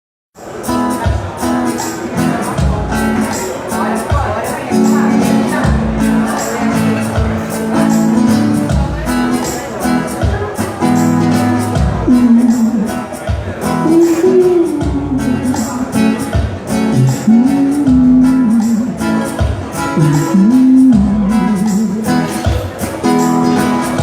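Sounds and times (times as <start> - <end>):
acoustic guitar strumming: 0.4 - 24.0.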